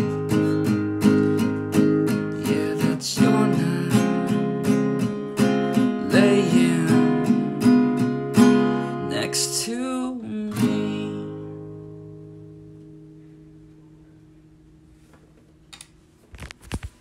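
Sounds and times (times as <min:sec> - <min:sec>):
acoustic guitar chord strummed: 0:00.0 - 0:15.0.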